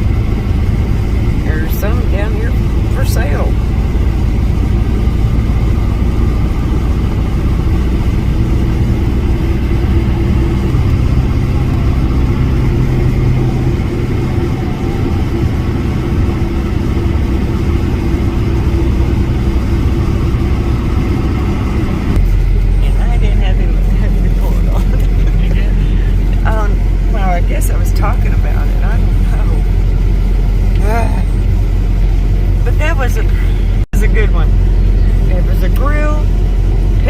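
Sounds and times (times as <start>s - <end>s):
road noise: 0.0s - 37.0s
vehicle engine running: 0.0s - 37.0s.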